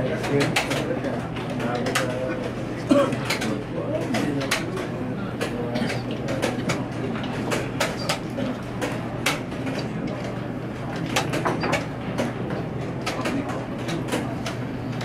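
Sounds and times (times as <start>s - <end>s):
faint murmur of voices: 0.0s - 15.0s.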